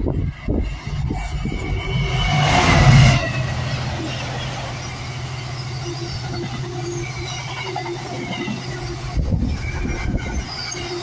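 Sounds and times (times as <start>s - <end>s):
diesel locomotive engine passing: 0.0s - 11.0s
wheels squealing: 0.5s - 11.0s
wagons rumbling past: 0.7s - 11.0s.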